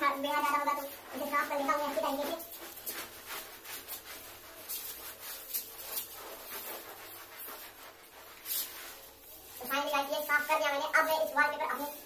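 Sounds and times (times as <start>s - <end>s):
cloth rubbing on wall: 0.0s - 12.0s.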